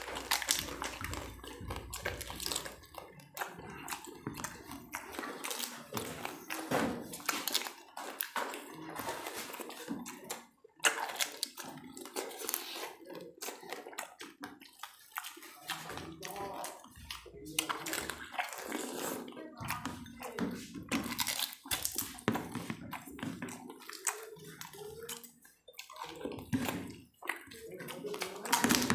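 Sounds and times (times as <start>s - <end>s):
crunching and slurping: 0.0s - 28.9s.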